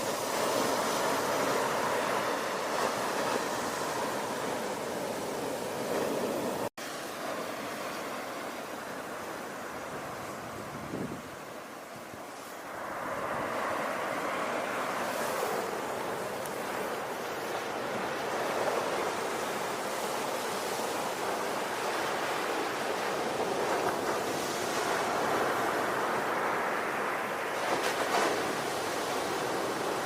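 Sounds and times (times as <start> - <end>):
ocean waves washing in: 0.0 - 30.0.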